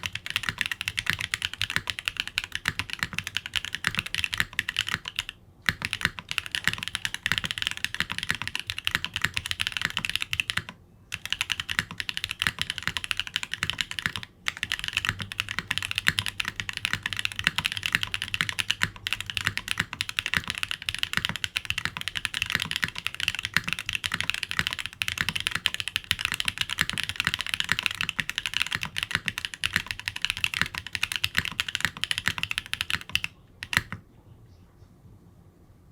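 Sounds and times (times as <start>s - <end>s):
fast typing on mechanical keyboard: 0.0s - 34.0s.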